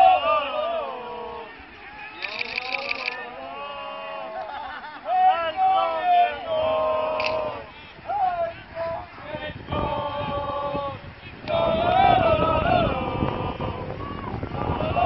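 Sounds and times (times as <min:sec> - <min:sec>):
football crowd chanting: 0:00.0 - 0:02.2, 0:03.1 - 0:15.0.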